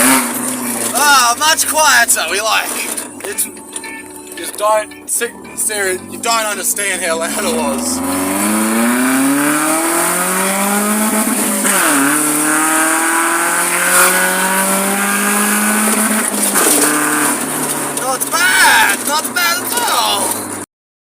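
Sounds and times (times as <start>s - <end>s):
car engine accelerating: 0.0s - 20.6s.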